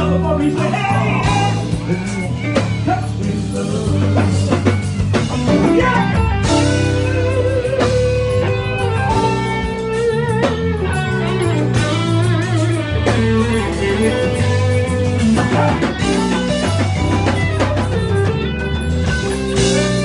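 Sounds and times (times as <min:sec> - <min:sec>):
electric guitar bending notes: 0:00.0 - 0:20.0
live band playing soul blues: 0:00.0 - 0:20.0.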